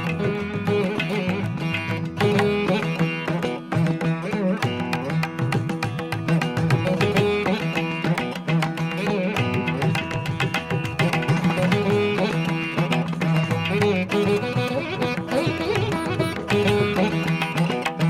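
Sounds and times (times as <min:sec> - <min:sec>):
plucked strings: 0:00.0 - 0:18.0.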